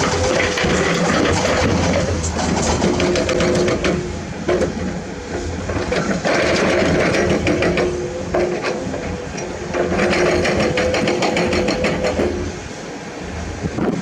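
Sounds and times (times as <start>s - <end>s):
diesel machinery engines humming: 0.0s - 14.0s
machinery clanks and rattles: 0.0s - 14.0s.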